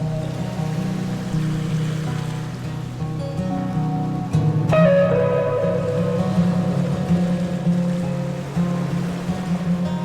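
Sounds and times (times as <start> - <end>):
plucked guitar music: 0.0 - 10.0.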